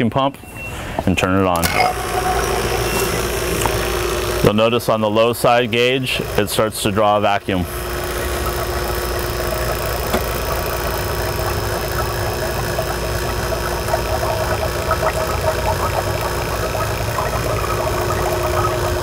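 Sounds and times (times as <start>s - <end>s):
vacuum pump motor humming: 1.6s - 19.0s.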